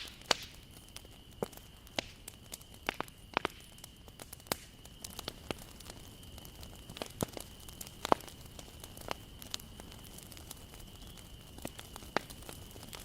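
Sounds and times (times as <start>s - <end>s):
burning wood popping: 0.0s - 13.0s
wood fire crackling: 0.0s - 13.0s.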